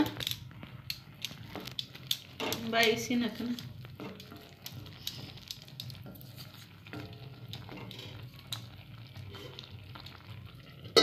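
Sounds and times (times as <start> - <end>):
wooden spatula scraping a pot: 0.0 - 11.0.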